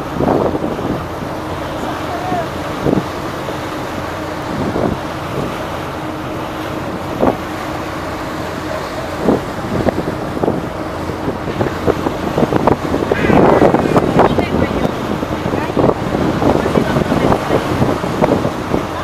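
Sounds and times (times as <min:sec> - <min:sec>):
wind rushing over microphone: 0:00.0 - 0:05.9, 0:08.4 - 0:19.0
ship engine drone: 0:00.0 - 0:19.0.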